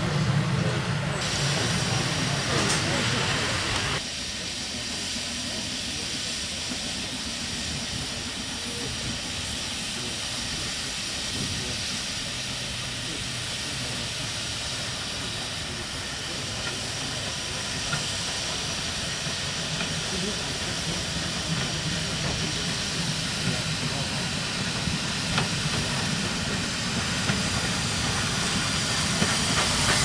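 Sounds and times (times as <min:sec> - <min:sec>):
steam locomotive hissing: 0:00.0 - 0:30.0.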